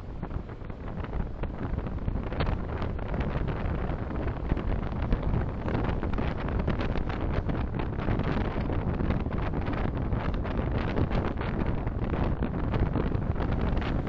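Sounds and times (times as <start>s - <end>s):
car road and wind noise: 0.0s - 14.0s
crackly wind buffeting: 0.0s - 14.0s.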